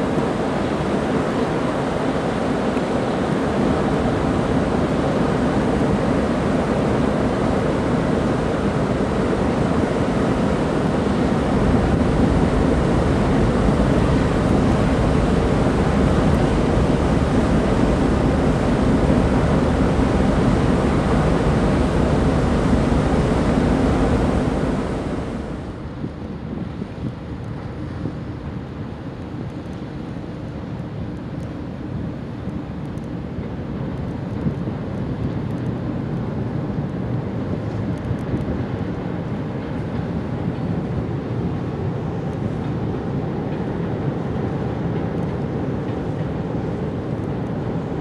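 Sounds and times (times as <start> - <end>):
train rumbling over steel bridge: 0.0 - 48.0
wind noise on microphone: 0.0 - 48.0.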